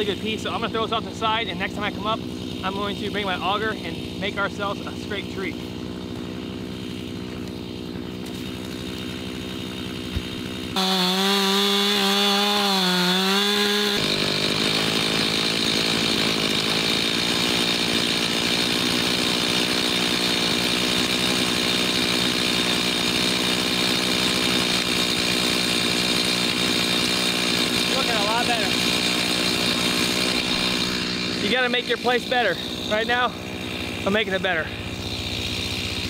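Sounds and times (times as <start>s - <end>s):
chainsaw engine running: 0.0s - 36.0s.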